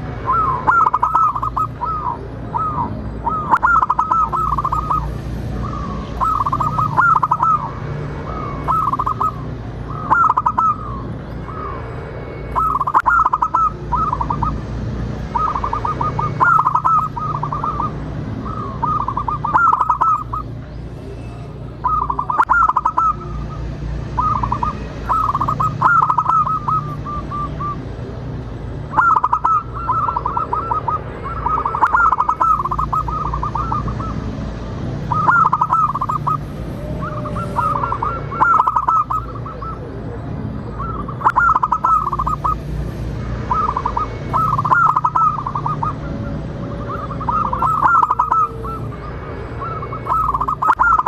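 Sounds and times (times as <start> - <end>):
dove cooing: 0.0 - 11.8, 12.5 - 14.6, 15.2 - 20.6, 21.7 - 27.9, 28.9 - 34.3, 35.0 - 42.6, 43.4 - 51.0.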